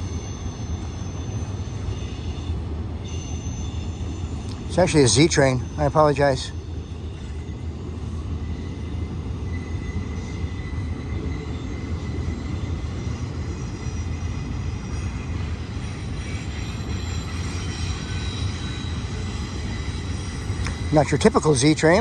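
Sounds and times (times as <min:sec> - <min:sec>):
high wheel squeal: 0:00.0 - 0:22.0
train wheels rumbling on rails: 0:00.0 - 0:22.0.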